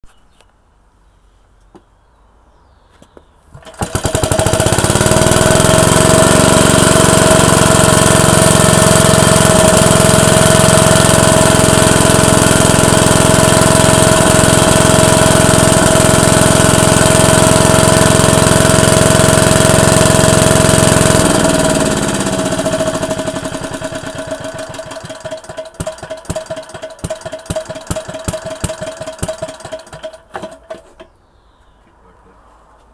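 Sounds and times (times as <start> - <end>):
single-cylinder engine running: 3.5 - 31.0.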